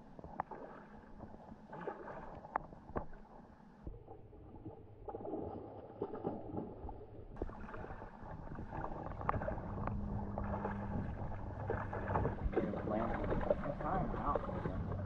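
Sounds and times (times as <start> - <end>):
fish splashing in water: 0.3 - 15.0.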